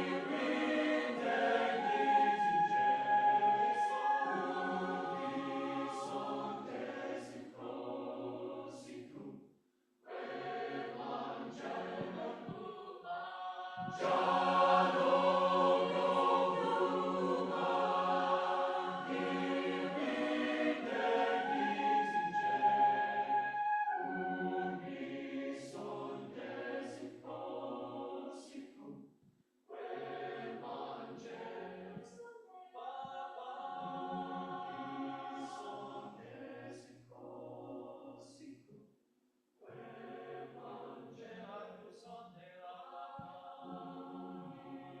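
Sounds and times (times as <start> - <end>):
choir singing in harmony: 0.0 - 9.4, 10.1 - 29.0, 29.7 - 38.4, 39.6 - 45.0.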